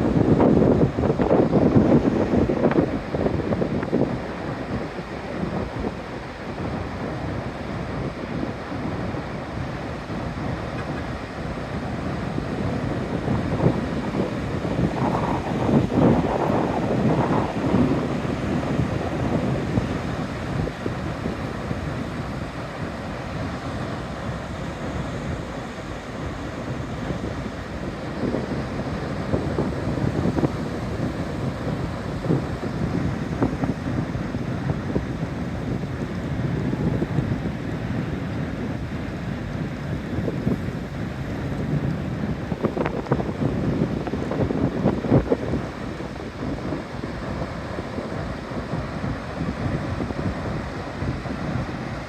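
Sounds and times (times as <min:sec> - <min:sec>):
surf waves breaking: 0:00.0 - 0:52.0
wind buffeting microphone: 0:00.0 - 0:52.0.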